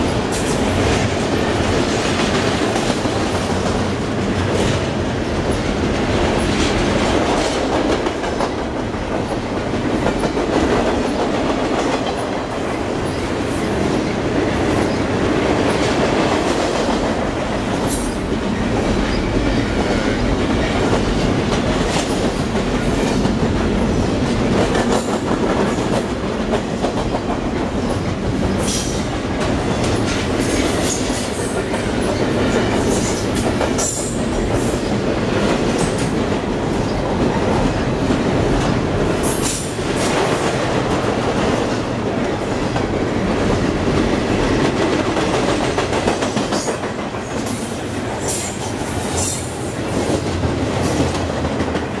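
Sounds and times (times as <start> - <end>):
steel wheels rumbling on rail: 0.0 - 52.0.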